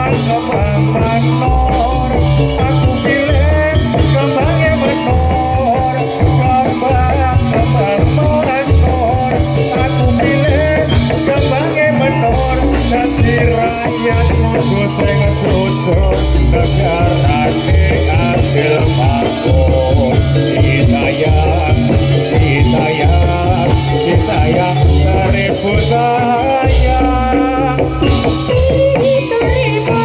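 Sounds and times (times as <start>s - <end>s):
loud low beat: 0.0s - 28.9s
gamelan ensemble music: 0.0s - 30.0s.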